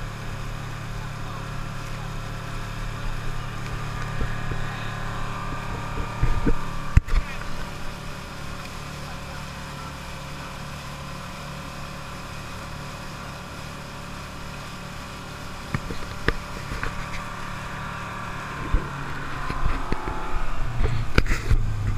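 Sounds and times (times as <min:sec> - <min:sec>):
boat engine running steadily: 0:00.0 - 0:21.9
wind and water noise: 0:00.0 - 0:21.9.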